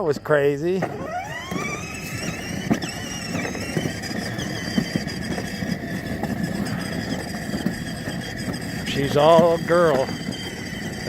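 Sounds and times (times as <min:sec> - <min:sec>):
electric motor whining: 0:00.0 - 0:11.0
plastic wheels on concrete: 0:00.0 - 0:11.0.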